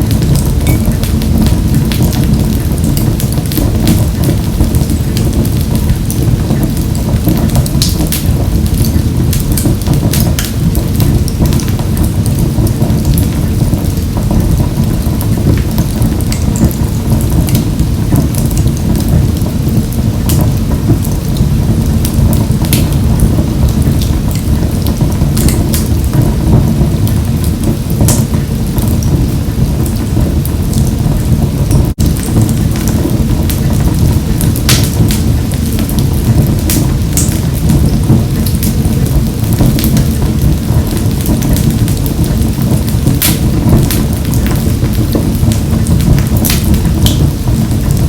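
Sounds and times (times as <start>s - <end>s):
wood fire burning and crackling: 0.0s - 48.0s.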